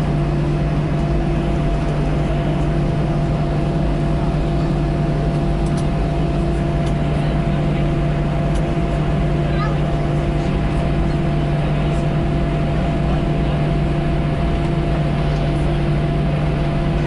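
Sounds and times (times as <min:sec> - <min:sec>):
jet engine cabin hum: 0:00.0 - 0:17.0.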